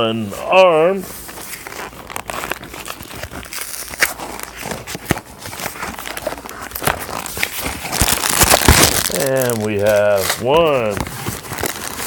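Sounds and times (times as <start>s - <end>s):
cardboard and plastic bags rustling: 0.8s - 12.0s.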